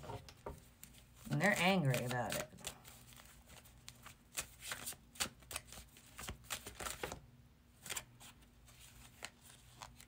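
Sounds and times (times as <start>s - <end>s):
cards being shuffled: 0.0s - 7.2s, 7.8s - 10.0s.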